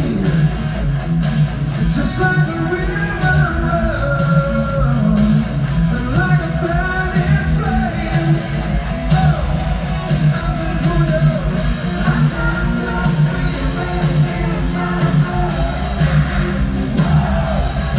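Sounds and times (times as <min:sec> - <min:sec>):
live rock band playing: 0:00.0 - 0:17.9
male lead vocal singing: 0:01.9 - 0:17.9.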